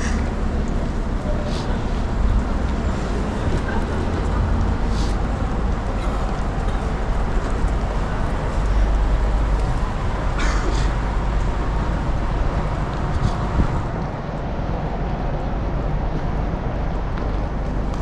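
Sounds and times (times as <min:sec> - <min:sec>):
street traffic: 0:00.0 - 0:18.0
wind buffeting microphone: 0:00.0 - 0:18.0.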